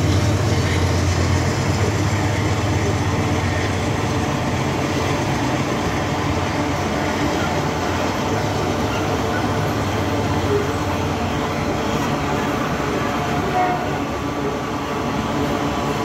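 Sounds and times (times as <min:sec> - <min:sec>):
steel wheels running on rails: 0:00.0 - 0:16.0.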